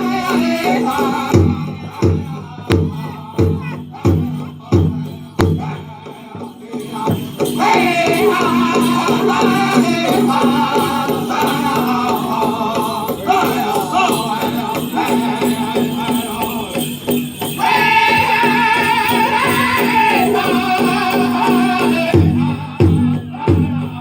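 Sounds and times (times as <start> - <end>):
big drum beats: 0.0 - 24.0
jingling bells: 0.0 - 24.0
men singing in high voices: 0.0 - 24.0.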